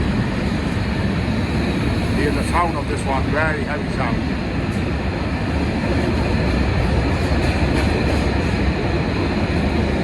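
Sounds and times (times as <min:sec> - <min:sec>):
freight train rumbling on rails: 0:00.0 - 0:10.0.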